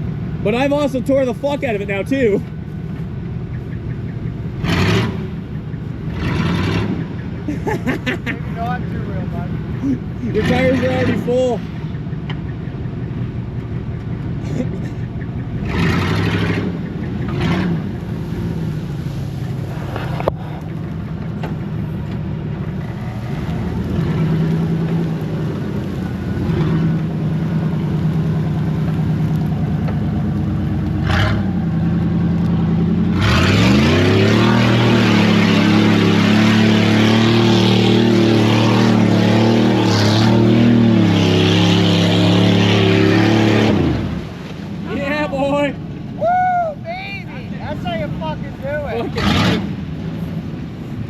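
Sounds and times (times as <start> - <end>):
truck engine revving: 0.0 - 46.2, 47.1 - 51.0.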